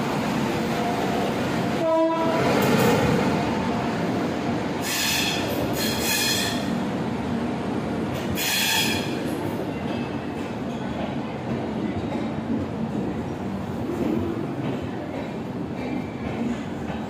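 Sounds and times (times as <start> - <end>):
train coaches rumbling past: 0.0 - 17.0.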